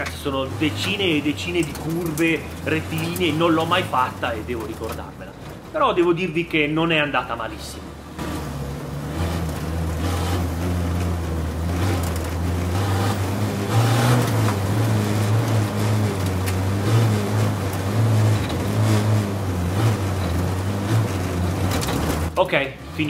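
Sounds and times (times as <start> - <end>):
diesel engine pulling hard: 0.0 - 23.0.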